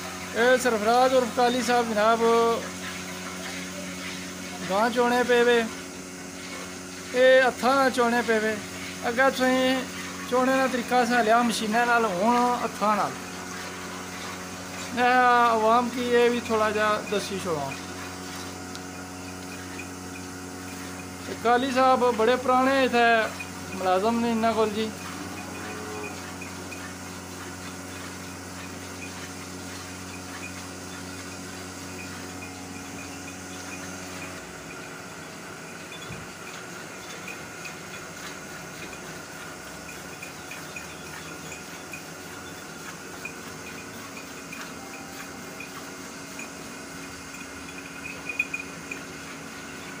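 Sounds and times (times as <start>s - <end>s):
machine hum: 0.0s - 50.0s.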